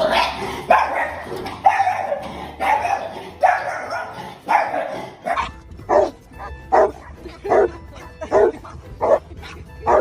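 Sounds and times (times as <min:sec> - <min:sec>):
dog barking: 0:00.0 - 0:07.7, 0:08.3 - 0:10.0.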